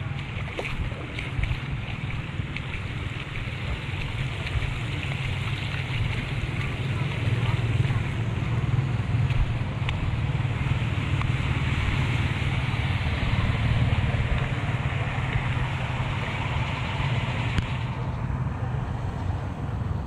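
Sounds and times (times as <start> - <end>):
floodwater rushing: 0.0 - 20.0
wind on microphone: 0.0 - 20.0.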